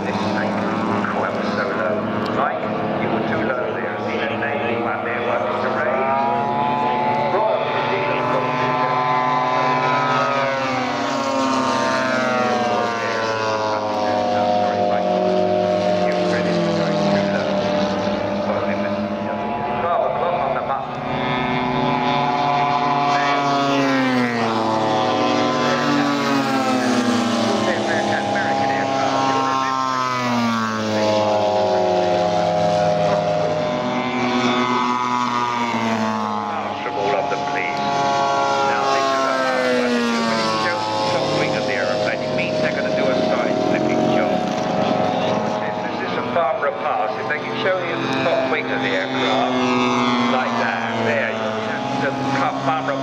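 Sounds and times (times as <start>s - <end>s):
model plane propellers droning: 0.0s - 53.0s.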